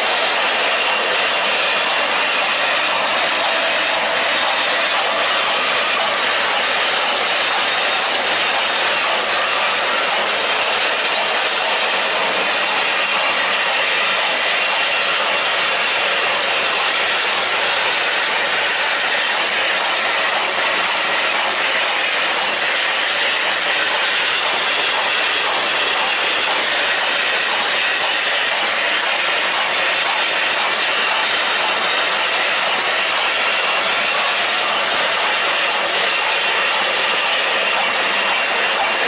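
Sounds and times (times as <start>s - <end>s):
wire machine clattering: 0.0s - 39.0s.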